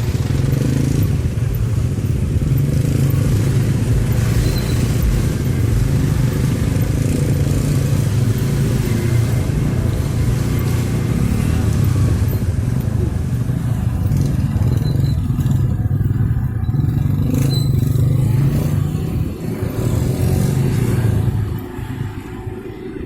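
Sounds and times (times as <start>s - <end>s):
traffic engines rumbling: 0.0s - 23.0s.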